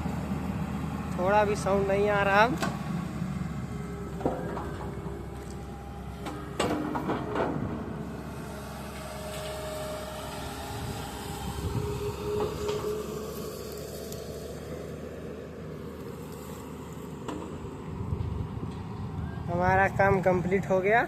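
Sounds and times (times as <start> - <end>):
excavator engine rumble: 0.0 - 21.0.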